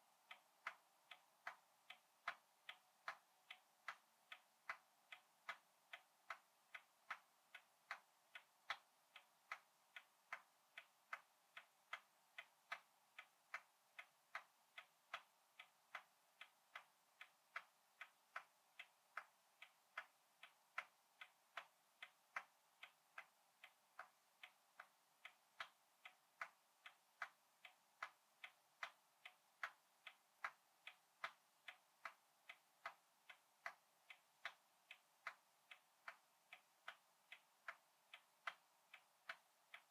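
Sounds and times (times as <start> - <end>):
clock ticking faintly: 0.0 - 39.9.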